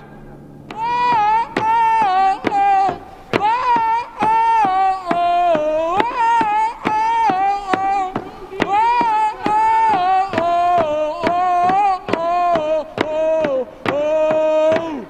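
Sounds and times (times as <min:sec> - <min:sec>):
person singing long gliding notes: 0:00.0 - 0:15.0
sharp drum beats: 0:00.0 - 0:15.0.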